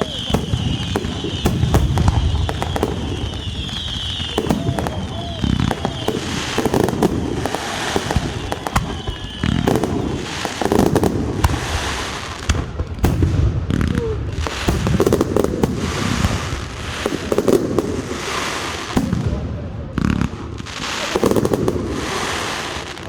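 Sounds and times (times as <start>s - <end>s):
heavy firework booms: 0.0s - 22.4s
fireworks bangs and crackling: 0.0s - 23.0s.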